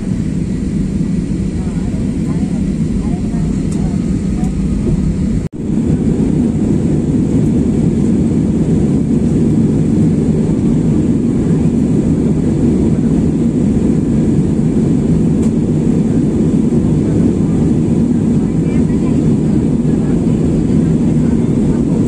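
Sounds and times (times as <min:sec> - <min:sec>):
jet airliner cabin noise: 0:00.0 - 0:22.0.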